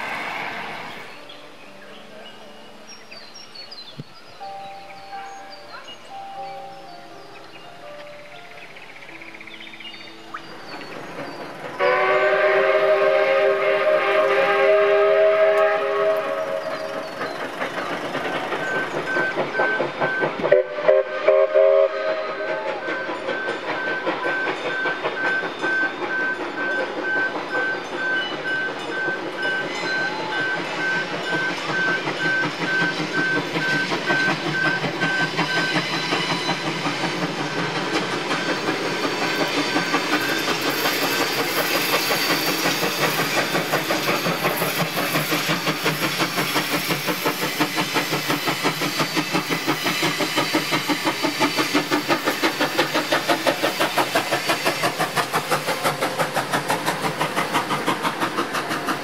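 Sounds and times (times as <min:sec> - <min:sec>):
hiss of steam: 0:00.0 - 0:06.6, 0:08.7 - 0:59.0
steam locomotive chuffing: 0:00.0 - 0:59.0.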